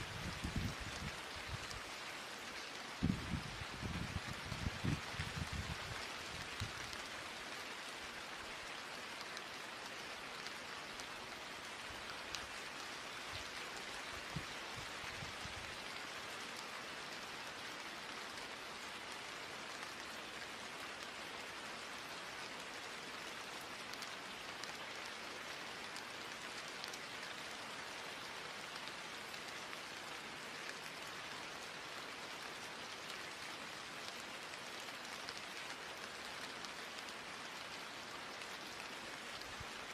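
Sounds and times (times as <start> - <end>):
rain-like hiss: 0.0 - 39.9.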